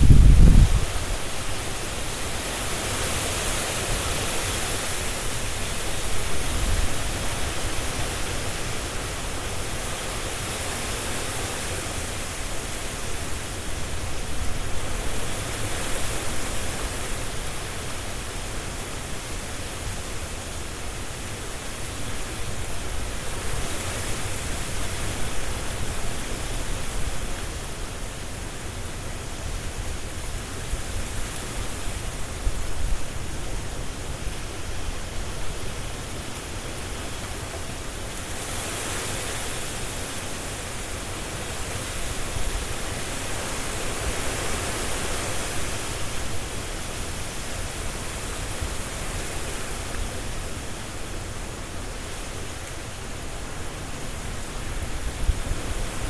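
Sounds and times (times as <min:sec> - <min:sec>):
strong wind through trees: 0:00.0 - 0:56.0.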